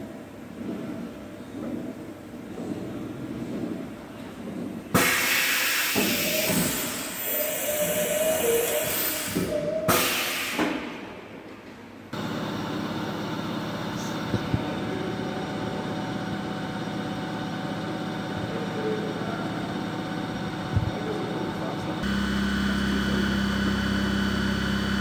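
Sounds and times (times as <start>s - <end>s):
machining centre hum: 0.0s - 25.0s.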